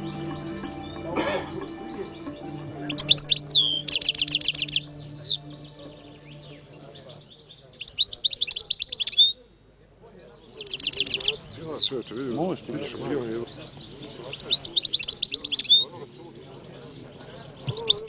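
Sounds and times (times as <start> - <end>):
goldfinch twittering song: 0.0 - 9.4, 10.4 - 18.0.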